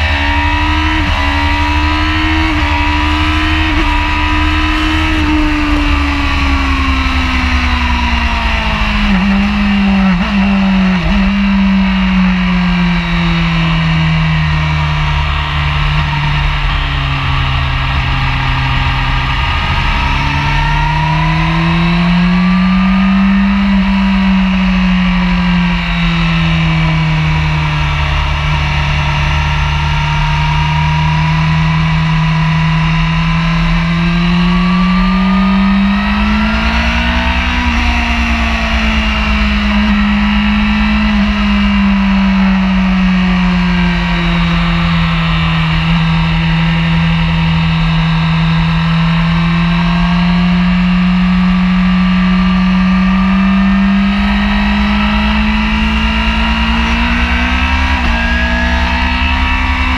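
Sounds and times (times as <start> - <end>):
motorcycle engine running at speed: 0.0 - 59.9.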